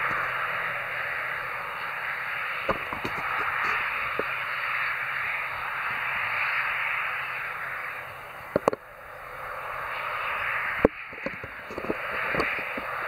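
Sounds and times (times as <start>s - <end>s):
turboprop engines rushing: 0.0s - 13.0s.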